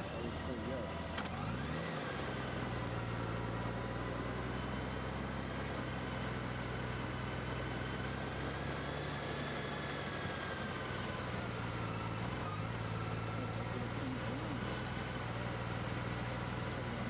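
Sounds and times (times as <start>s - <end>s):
motorcycle engine humming: 0.0s - 17.0s
wind and road noise: 0.0s - 17.0s.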